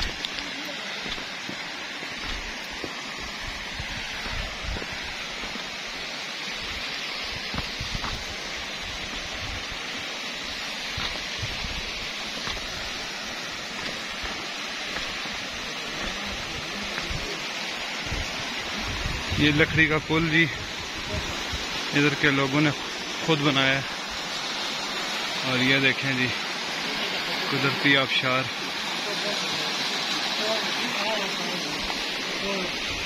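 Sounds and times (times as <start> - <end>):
waterfall splashing on rocks: 0.0 - 33.0.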